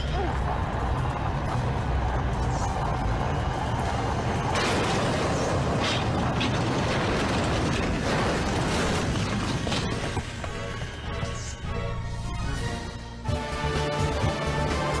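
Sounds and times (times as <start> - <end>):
heavy rumble with mechanical grinding: 0.0 - 13.2.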